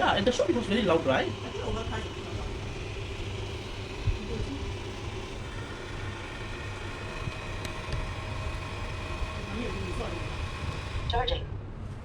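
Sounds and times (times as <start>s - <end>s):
robot vacuum motor drone: 0.0s - 11.4s.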